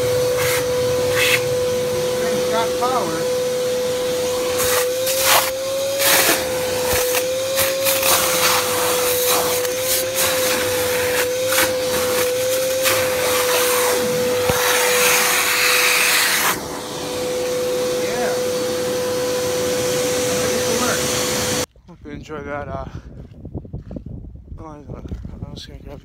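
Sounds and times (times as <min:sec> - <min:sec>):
shop vac motor whine: 0:00.0 - 0:21.7.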